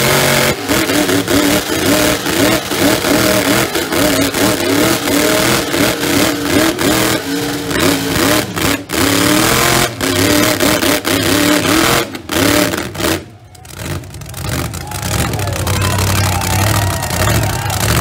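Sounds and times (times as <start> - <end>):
truck engines revving hard: 0.0 - 18.0.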